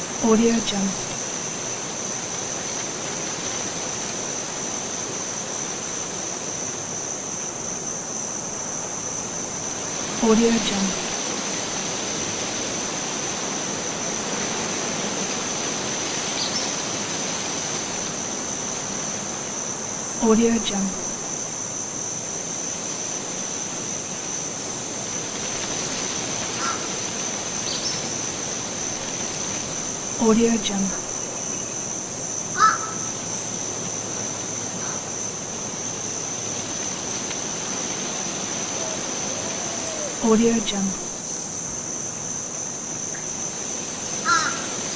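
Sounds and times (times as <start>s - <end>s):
soft hiss: 0.0s - 20.1s, 20.8s - 44.9s
high-pitched insect trill: 0.0s - 44.9s.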